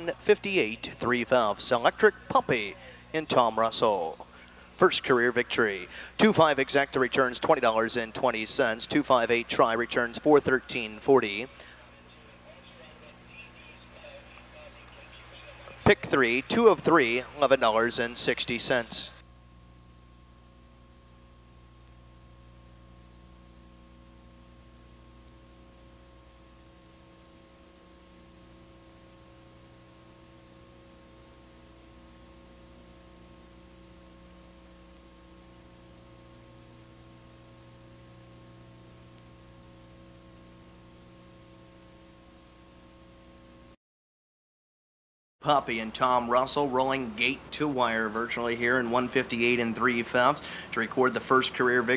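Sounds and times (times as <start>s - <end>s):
electrical hum: 0.0s - 43.8s, 45.4s - 51.9s.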